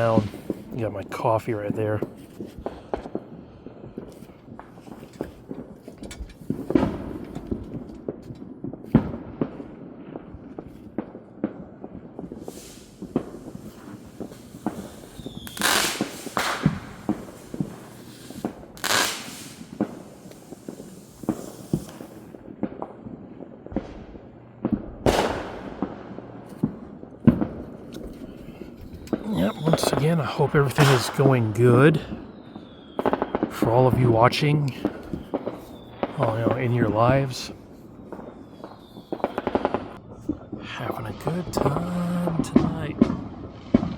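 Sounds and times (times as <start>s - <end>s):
firecrackers popping and crackling: 0.0s - 43.9s
firework bangs with echo: 0.0s - 43.9s.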